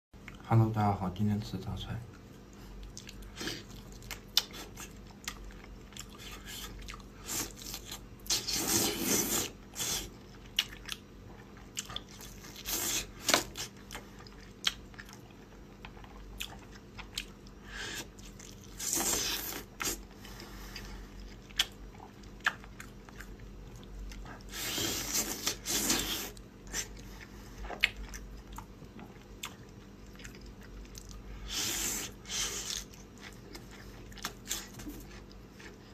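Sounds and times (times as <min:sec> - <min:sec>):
chewing and crunchy bites: 0:02.5 - 0:35.9.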